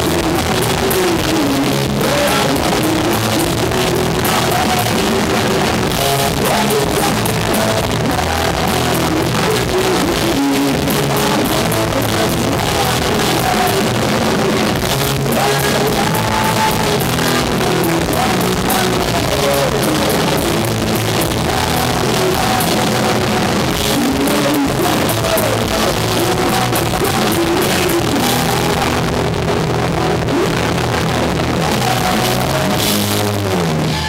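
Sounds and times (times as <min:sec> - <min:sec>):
live rock band: 0:00.0 - 0:34.0.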